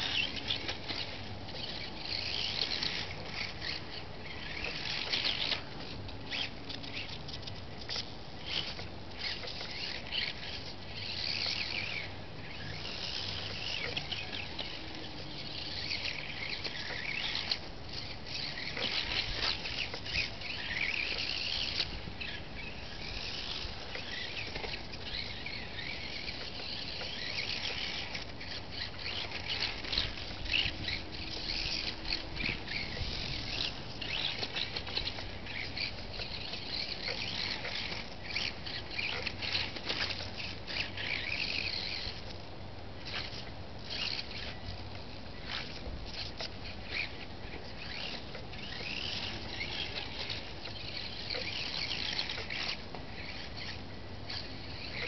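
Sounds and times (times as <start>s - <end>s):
small electric motor whining: 0.0s - 55.0s.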